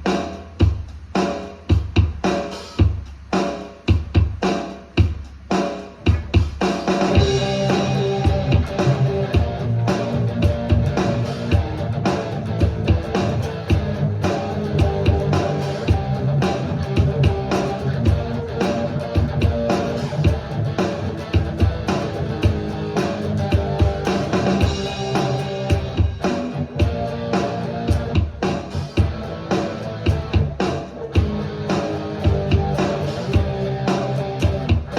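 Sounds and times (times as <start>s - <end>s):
drum kit beat: 0.0s - 34.9s
rock guitar: 6.1s - 34.9s.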